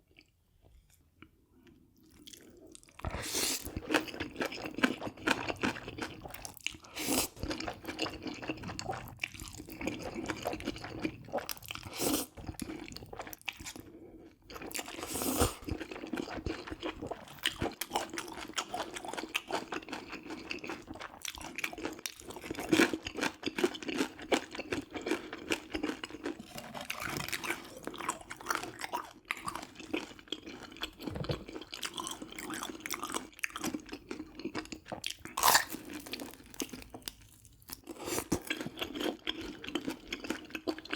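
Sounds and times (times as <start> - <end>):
person chewing crunchy food: 0.1 - 40.9.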